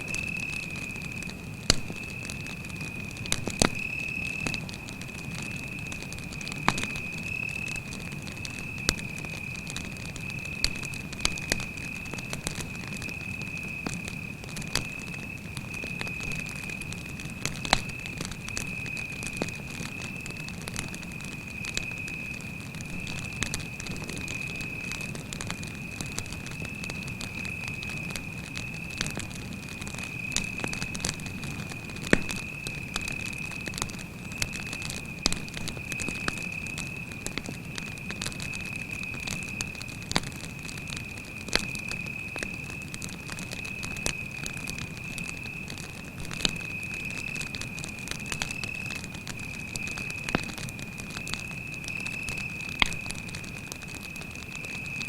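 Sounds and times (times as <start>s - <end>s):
campfire crackling and popping: 0.0s - 55.0s
cricket trilling: 0.0s - 55.0s.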